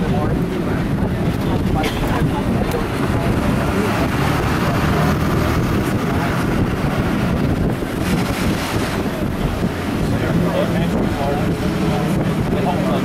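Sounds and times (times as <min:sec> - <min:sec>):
vehicle engine and road rumble: 0:00.0 - 0:13.0
wind noise on microphone: 0:00.0 - 0:13.0.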